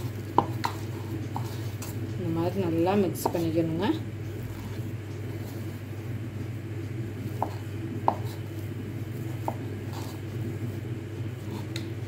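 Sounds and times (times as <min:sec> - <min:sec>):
spoon stirring thick dough: 0:00.0 - 0:12.0
steady low hum: 0:00.0 - 0:12.0.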